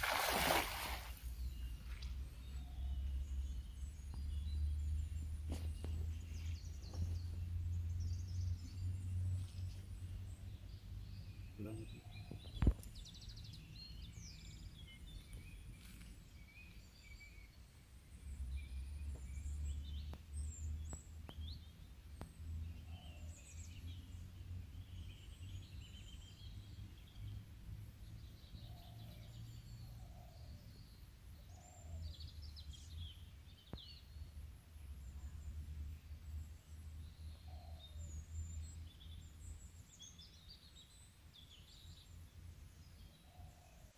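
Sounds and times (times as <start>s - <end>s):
birds chirping and trilling: 0.0s - 21.9s, 28.0s - 34.3s, 36.3s - 43.9s.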